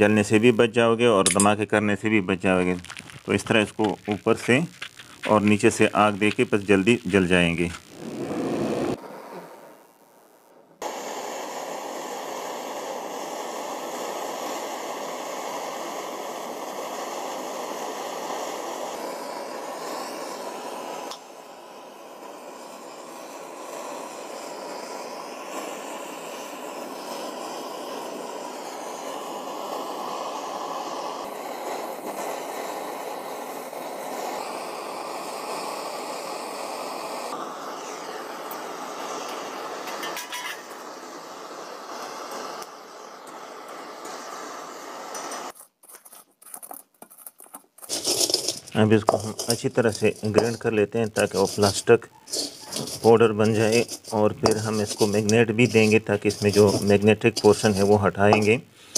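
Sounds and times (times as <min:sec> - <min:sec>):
gas torch flames rushing: 0:00.0 - 0:46.0, 0:46.6 - 0:58.9.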